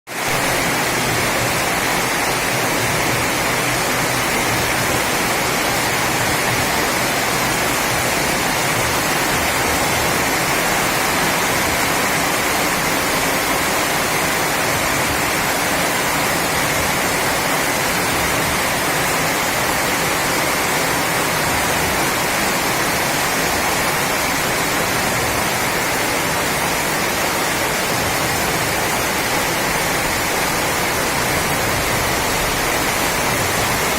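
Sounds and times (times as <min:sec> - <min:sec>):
heavy rain: 0:00.1 - 0:33.9.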